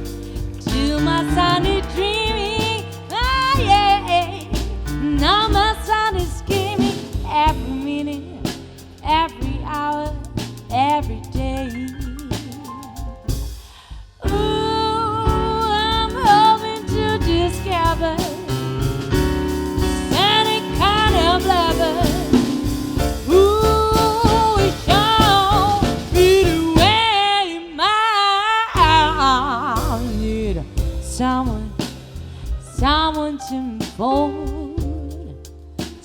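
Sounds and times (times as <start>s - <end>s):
soul blues band playing: 0.0s - 13.6s, 14.3s - 27.2s, 28.8s - 36.0s
woman singing: 0.6s - 13.3s, 14.2s - 36.0s.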